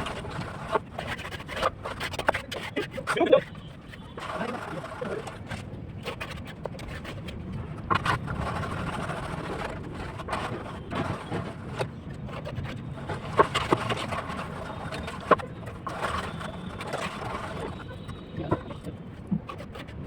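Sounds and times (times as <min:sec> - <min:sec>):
construction site rumble: 0:00.0 - 0:19.8.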